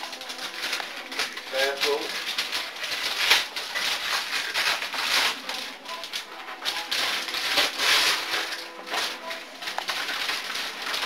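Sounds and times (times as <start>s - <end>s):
wrapping paper tearing: 0.0s - 11.0s.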